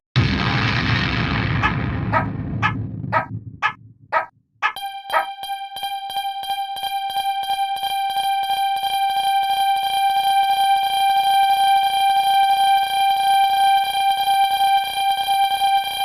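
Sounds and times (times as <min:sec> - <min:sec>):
level-crossing alarm ringing: 0:01.6 - 0:16.0.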